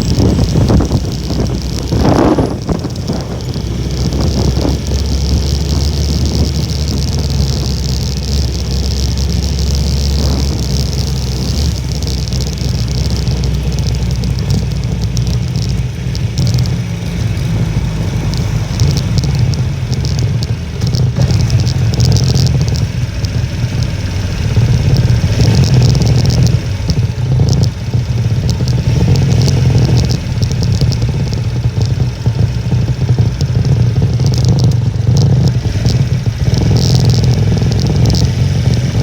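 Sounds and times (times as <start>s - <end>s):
small motorcycle engine running: 0.0s - 39.0s
wind noise on microphone: 0.0s - 39.0s.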